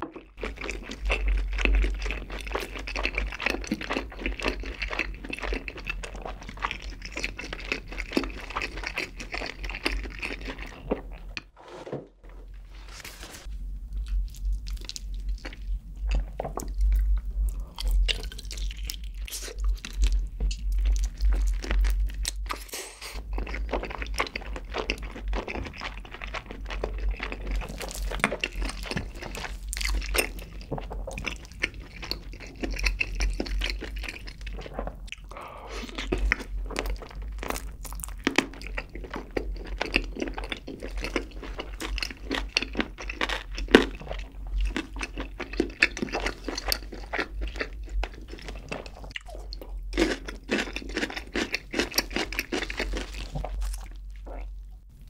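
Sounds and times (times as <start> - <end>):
close chewing and biting: 0.0 - 11.4, 14.0 - 54.8.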